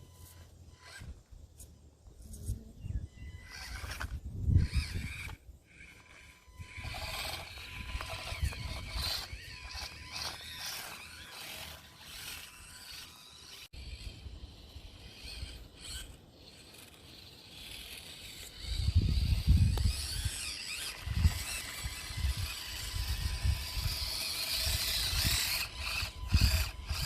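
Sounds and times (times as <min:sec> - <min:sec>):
small electric motor whining: 0:00.0 - 0:27.0.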